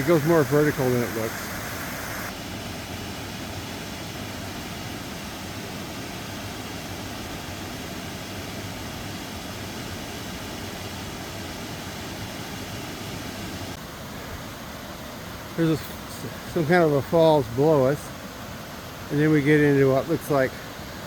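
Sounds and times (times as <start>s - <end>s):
waterfall and creek water rushing: 0.0s - 21.0s.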